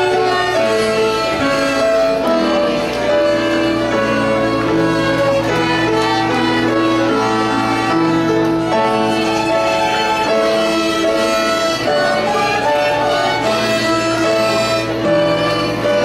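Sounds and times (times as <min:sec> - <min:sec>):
violin ensemble playing: 0:00.0 - 0:16.0.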